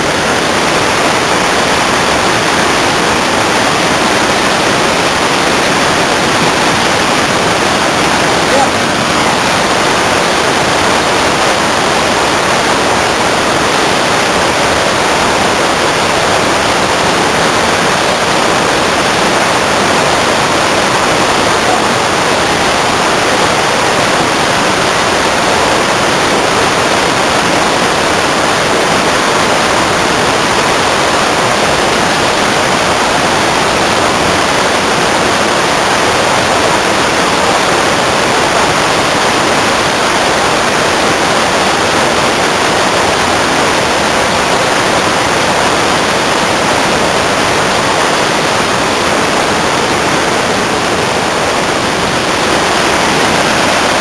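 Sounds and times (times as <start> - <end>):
rapids rushing over boulders: 0.0 - 54.0.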